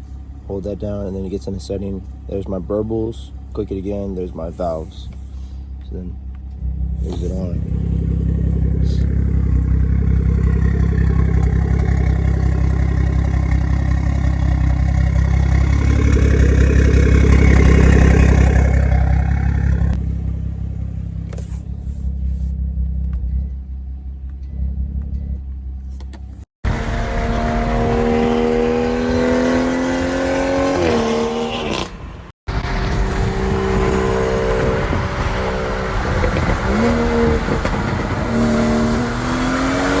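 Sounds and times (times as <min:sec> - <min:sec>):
car engine exhaust accelerating: 0:00.0 - 0:40.0
exhaust crackles: 0:00.0 - 0:40.0.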